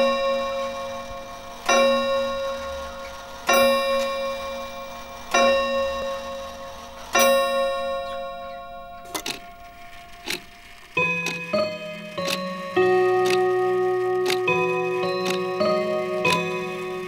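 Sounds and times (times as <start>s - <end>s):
clock bell striking: 0.0s - 17.0s.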